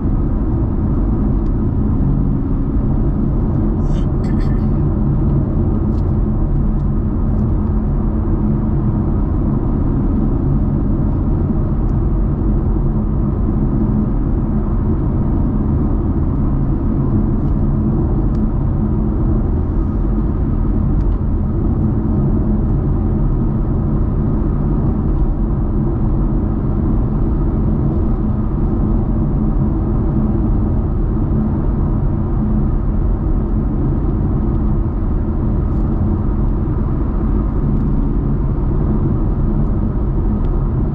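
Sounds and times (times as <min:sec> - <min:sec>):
road rumble: 0:00.0 - 0:40.9.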